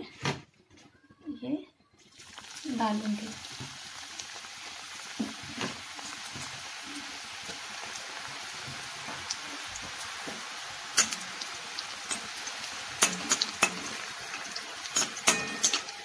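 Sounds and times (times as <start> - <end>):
dough frying in hot oil: 1.8 - 16.0.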